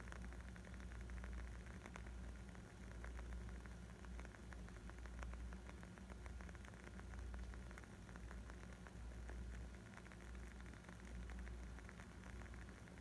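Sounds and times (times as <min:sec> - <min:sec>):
wood fire crackling: 0:00.1 - 0:13.0.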